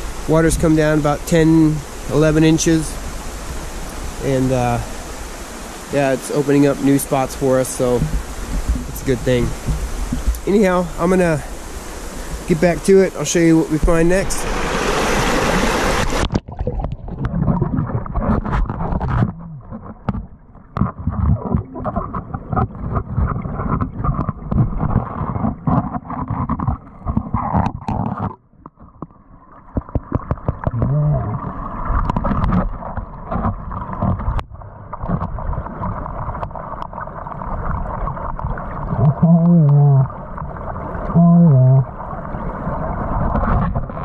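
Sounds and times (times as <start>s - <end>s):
muffled rushing water underwater: 0.0s - 44.0s.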